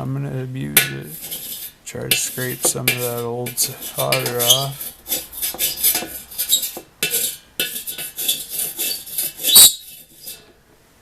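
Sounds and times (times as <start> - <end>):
soldering iron tip scraping: 0.9 - 10.5.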